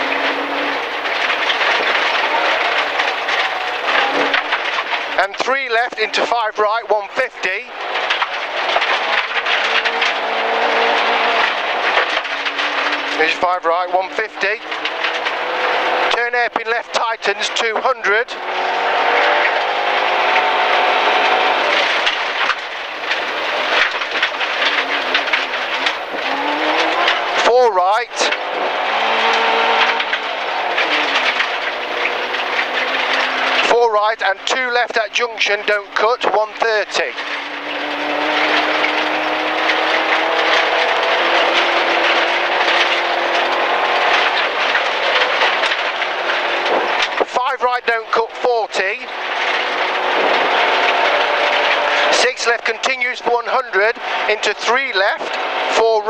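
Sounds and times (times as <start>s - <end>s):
gravel rattling against car underside: 0.0s - 56.0s
rally car engine revving: 0.0s - 56.0s.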